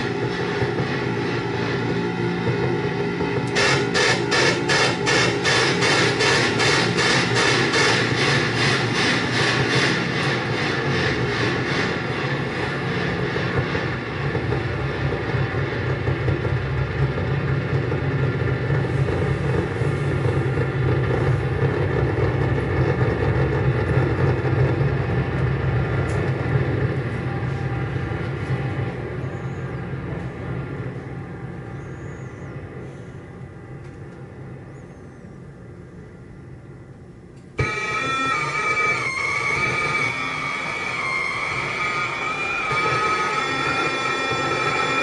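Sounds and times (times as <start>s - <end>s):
electronic noise drone: 0.0s - 32.8s, 37.5s - 45.0s.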